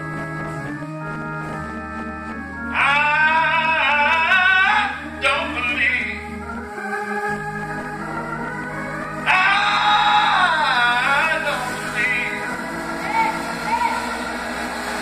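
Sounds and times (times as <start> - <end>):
organ chords: 0.0 - 15.0
man singing gospel with vibrato: 2.6 - 15.0.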